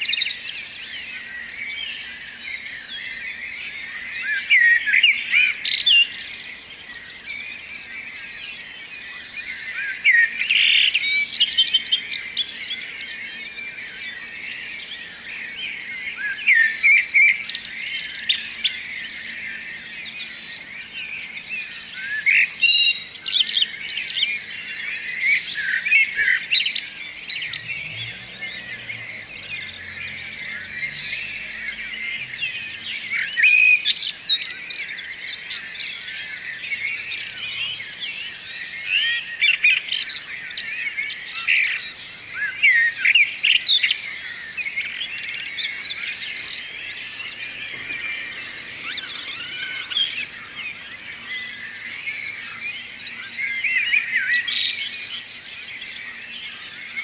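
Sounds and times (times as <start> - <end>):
sharp bird calls: 0.0 - 57.0
songbirds chirping and trilling: 0.0 - 57.0.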